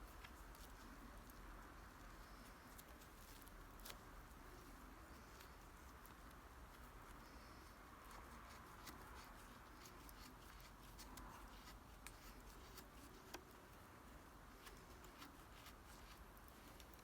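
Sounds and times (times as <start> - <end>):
soft hiss: 0.0 - 17.0.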